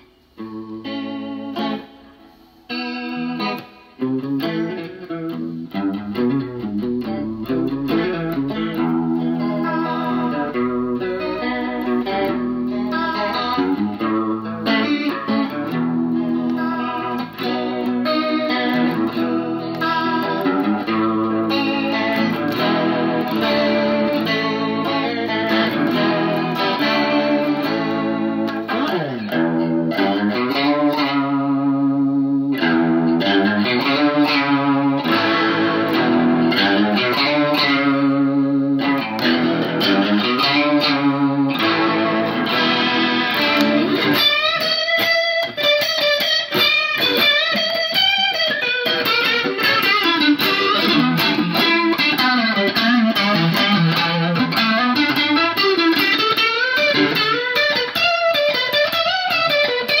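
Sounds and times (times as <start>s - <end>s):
electric guitar with rotary effect: 0.0s - 60.0s.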